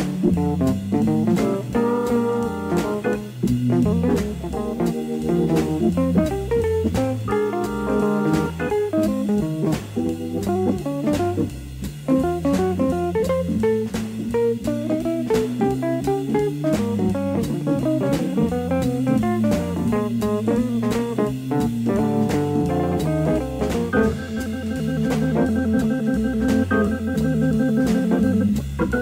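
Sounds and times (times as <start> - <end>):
jazz blues music: 0.0 - 29.0.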